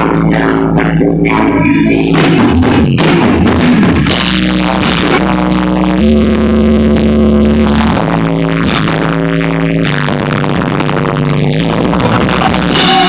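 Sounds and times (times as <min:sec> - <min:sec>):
live band playing rock music: 0:00.0 - 0:13.0.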